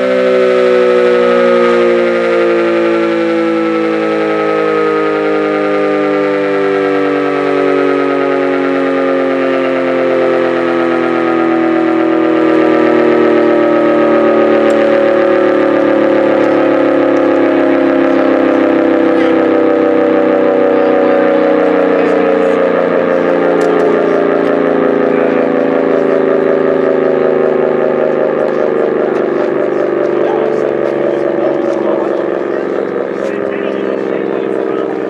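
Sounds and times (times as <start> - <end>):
mechanical siren falling pitch: 0.0 - 35.0.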